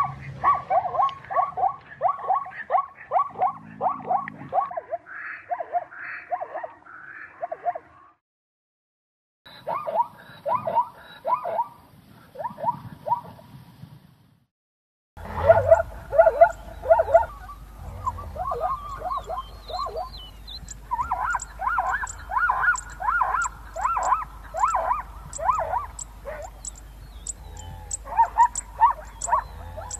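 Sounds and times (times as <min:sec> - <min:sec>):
zebra barking yelps: 0:00.0 - 0:08.1, 0:09.5 - 0:13.4, 0:15.2 - 0:29.9.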